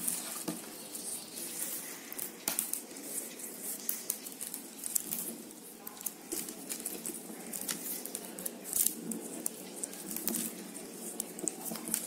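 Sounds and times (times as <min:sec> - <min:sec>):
plastic wire rustling and clicking: 0:00.0 - 0:12.0.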